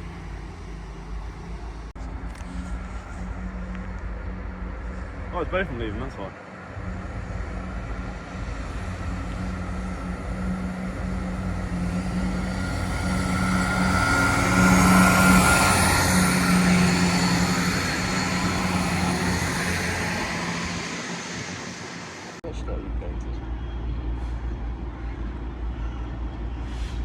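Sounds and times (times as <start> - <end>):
diesel trains departing: 0.0 - 27.0.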